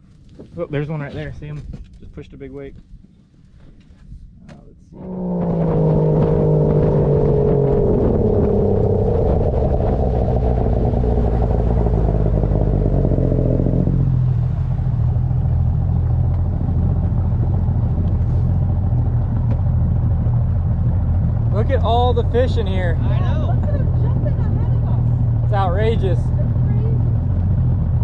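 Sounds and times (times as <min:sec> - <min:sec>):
boat outboard motor running: 0:05.0 - 0:28.0.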